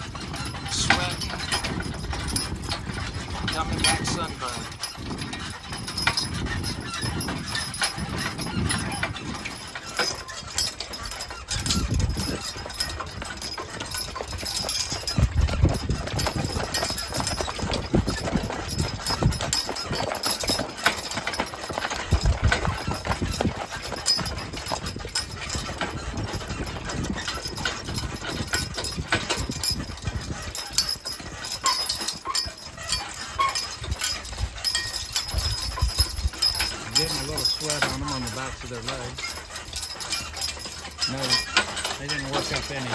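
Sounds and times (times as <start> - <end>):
harness rattling and jingling: 0.0 - 42.9
heavy hooves clip-clopping: 0.0 - 42.9.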